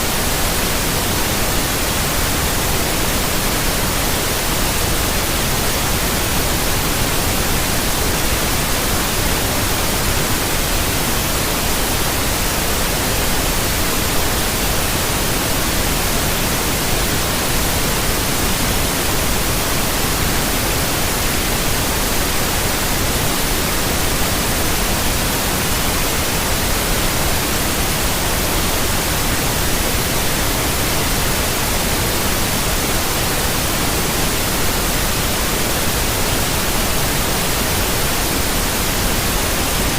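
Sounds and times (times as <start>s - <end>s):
synthetic white noise hiss: 0.0s - 39.9s.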